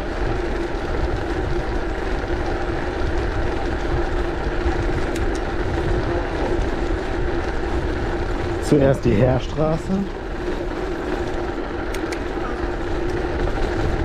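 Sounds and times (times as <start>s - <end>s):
bicycle rattling over cobblestones: 0.0s - 14.0s
low rumble: 0.0s - 14.0s.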